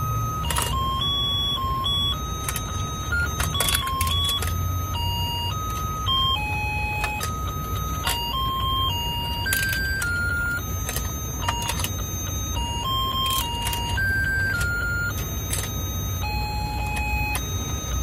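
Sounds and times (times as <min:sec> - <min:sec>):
beeping electronic tune: 0:00.0 - 0:18.0
toy motor humming: 0:00.4 - 0:18.0.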